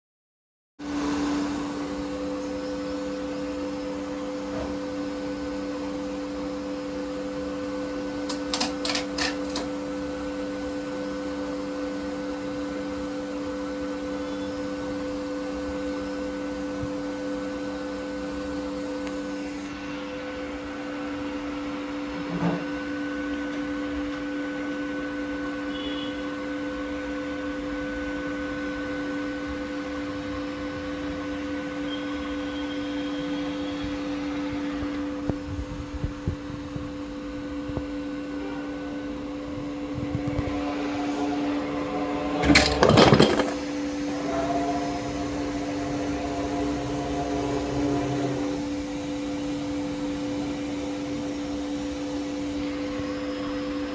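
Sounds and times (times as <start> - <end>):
printer fan hum: 0.9 - 53.9.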